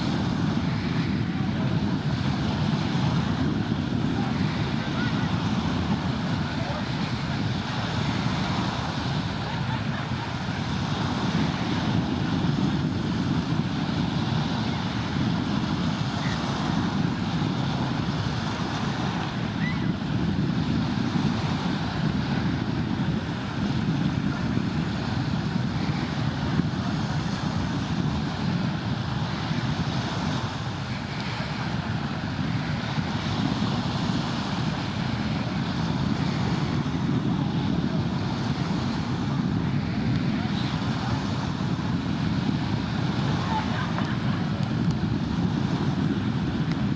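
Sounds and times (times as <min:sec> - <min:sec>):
sea washing on shore: 0:00.0 - 0:46.9
wind rumbling on microphone: 0:00.0 - 0:46.9.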